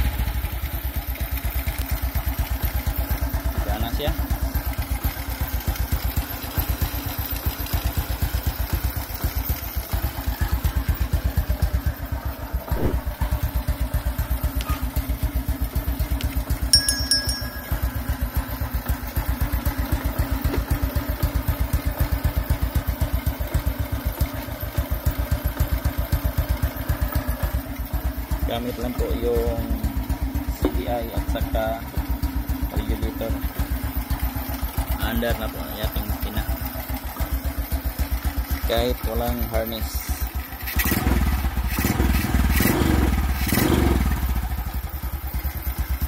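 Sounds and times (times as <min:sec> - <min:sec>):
motorcycle engine idling: 0:00.0 - 0:46.0.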